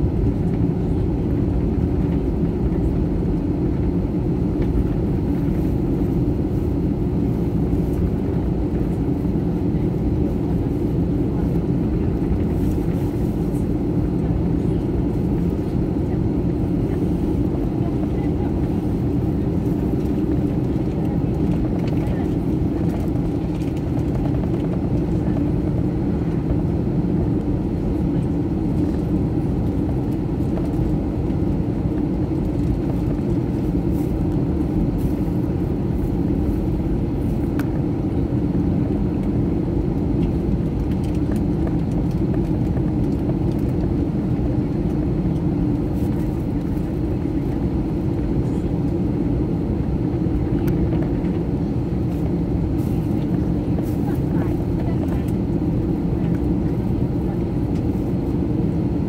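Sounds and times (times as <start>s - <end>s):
jet engines low rumble: 0.0s - 59.0s
cabin air: 3.4s - 59.0s.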